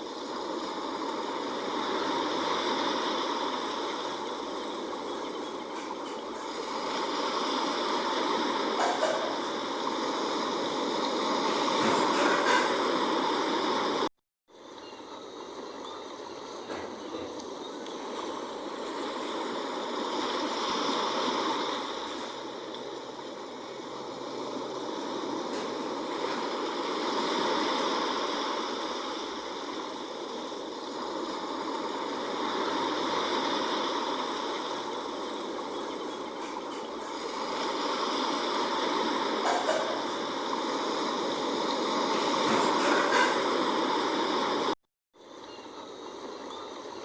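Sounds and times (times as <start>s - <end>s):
sea waves washing in: 0.0s - 47.0s.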